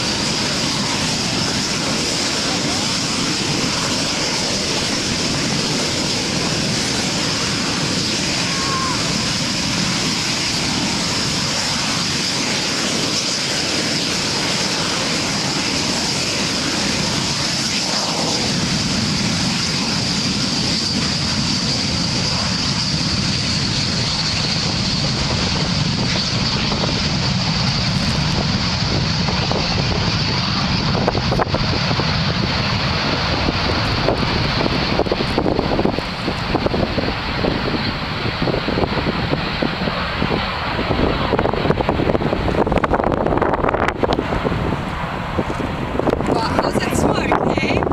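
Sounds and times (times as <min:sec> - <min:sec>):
jet engines at high power: 0:00.0 - 0:47.9.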